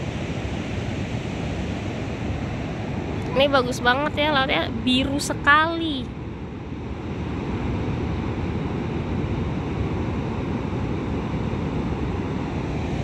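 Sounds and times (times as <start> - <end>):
surf breaking on a beach: 0.0 - 13.0.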